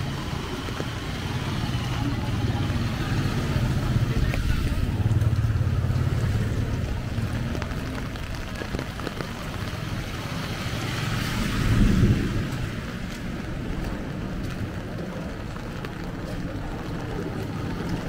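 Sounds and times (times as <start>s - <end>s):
heavy rain on a street: 0.0s - 18.0s
vehicle engines rumbling: 0.0s - 18.0s.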